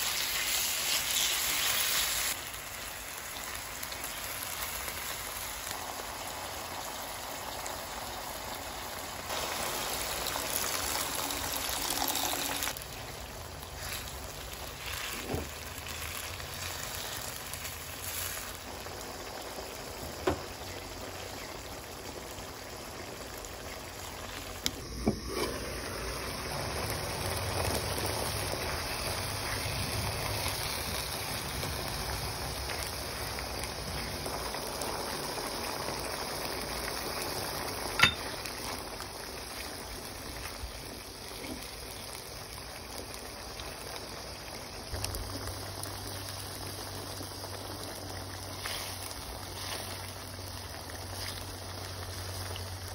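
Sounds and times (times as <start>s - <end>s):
food bubbling and sizzling: 0.0s - 52.9s.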